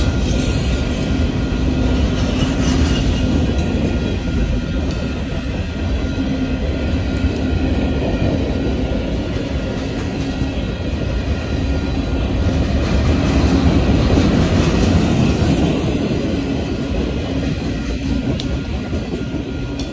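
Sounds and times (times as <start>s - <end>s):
freight train wheels rumbling: 0.0s - 19.9s.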